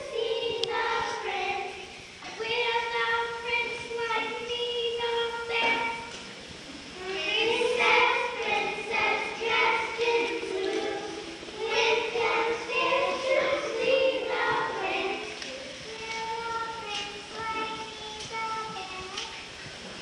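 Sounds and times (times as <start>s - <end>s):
young children singing: 0.0s - 6.2s, 7.0s - 19.3s.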